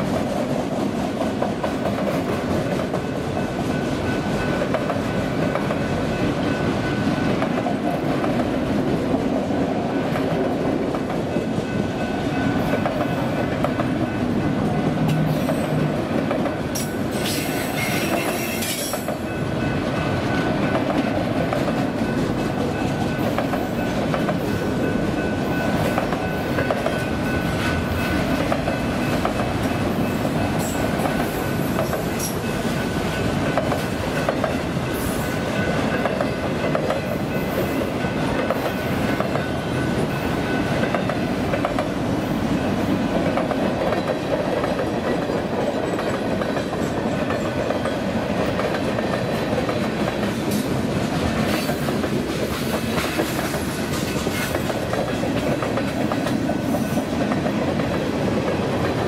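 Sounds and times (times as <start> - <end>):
clickety-clack over rail joints: 0.0 - 59.0
freight train wheels rumbling: 0.0 - 59.0.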